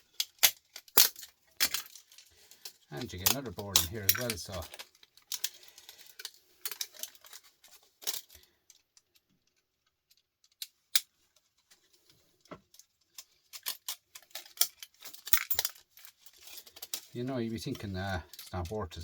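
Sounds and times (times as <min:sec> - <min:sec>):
metal parts and tools clinking: 0:00.0 - 0:11.2, 0:12.6 - 0:19.0.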